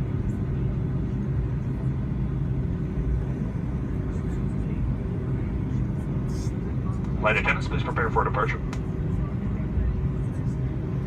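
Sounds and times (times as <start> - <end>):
aircraft engines idling rumble: 0.0 - 11.0
faint cabin hum: 0.0 - 11.0.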